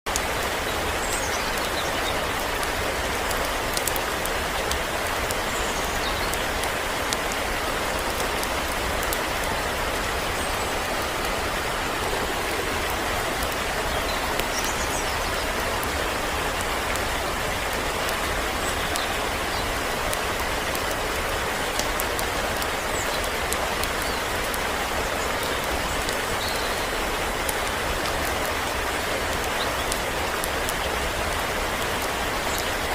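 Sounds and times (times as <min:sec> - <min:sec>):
waterfall pouring onto rock: 0:00.1 - 0:32.9.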